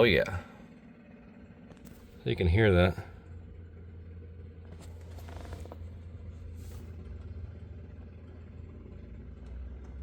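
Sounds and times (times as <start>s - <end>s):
electric fuel pump humming: 0.0s - 10.0s.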